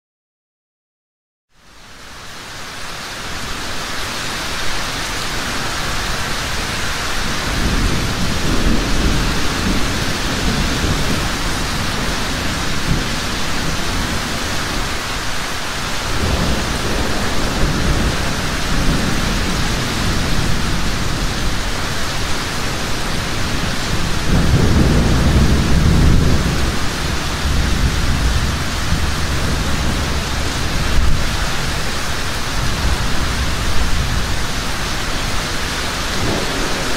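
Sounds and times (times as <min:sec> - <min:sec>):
heavy rain: 0:01.5 - 0:36.9
rolling thunder: 0:05.8 - 0:15.1, 0:15.9 - 0:36.9.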